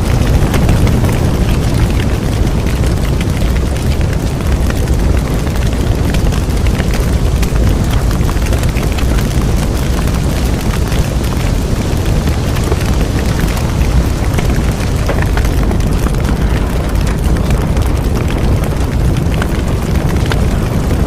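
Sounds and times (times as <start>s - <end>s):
burning wood crackling: 0.0s - 21.0s
low rumble of flames: 0.0s - 21.0s.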